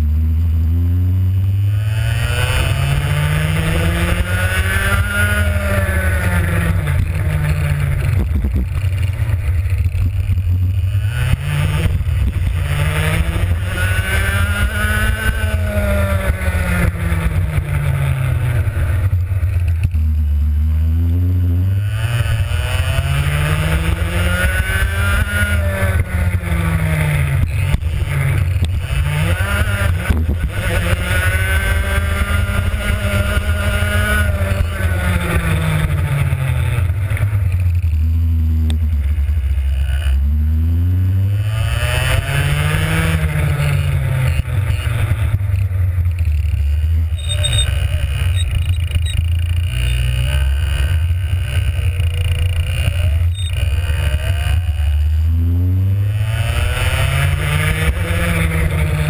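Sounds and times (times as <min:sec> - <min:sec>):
kart engine at full throttle: 0:00.0 - 0:59.0.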